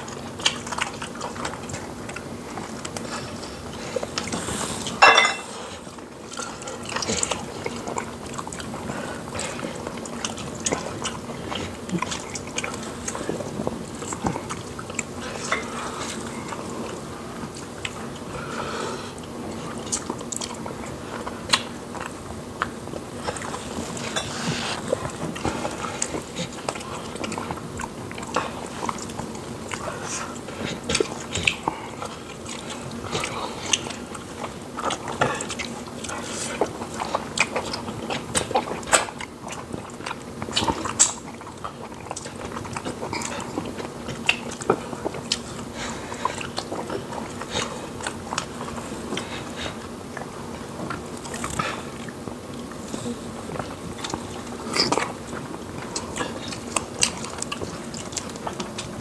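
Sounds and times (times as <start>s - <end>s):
people chewing with wet clicks: 0.0s - 59.0s.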